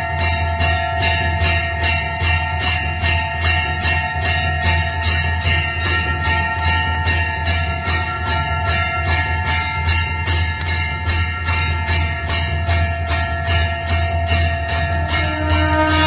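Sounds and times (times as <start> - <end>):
temple bell ringing: 0.0 - 16.0.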